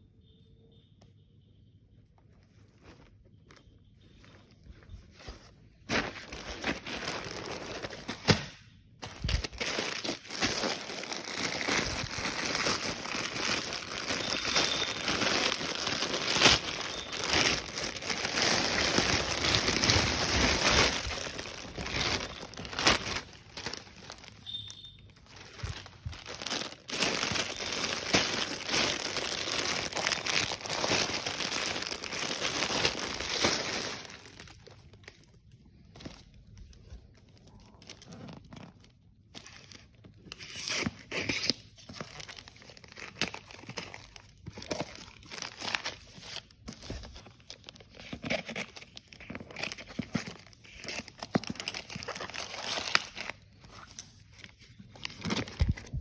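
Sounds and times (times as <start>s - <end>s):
packaging crinkling and rustling: 2.2s - 56.0s.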